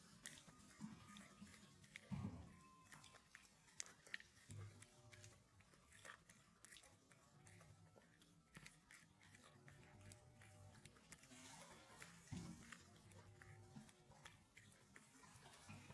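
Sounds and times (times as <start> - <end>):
puppy lapping a drink: 0.0 - 15.9.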